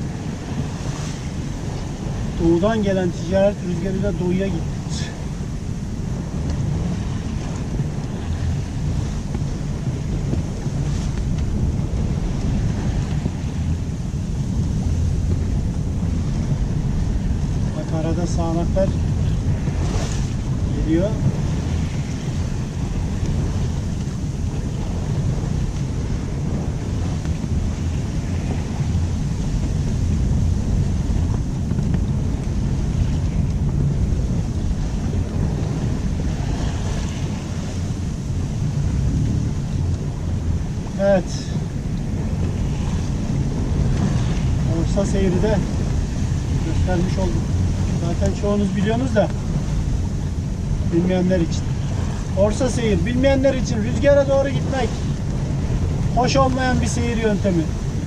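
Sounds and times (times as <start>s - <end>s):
waves rushing along hull: 0.0s - 58.0s
wind buffeting microphone: 0.0s - 58.0s.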